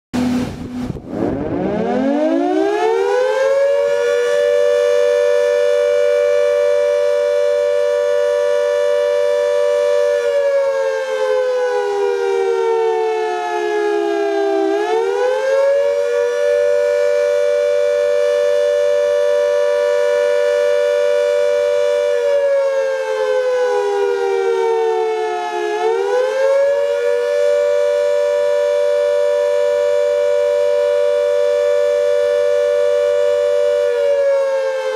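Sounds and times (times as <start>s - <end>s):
air raid siren wailing: 0.2s - 34.9s.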